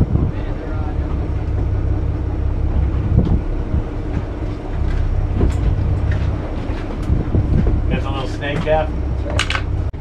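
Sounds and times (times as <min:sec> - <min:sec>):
boat engine droning: 0:00.0 - 0:10.0
water noise: 0:00.0 - 0:10.0
wind: 0:00.0 - 0:10.0.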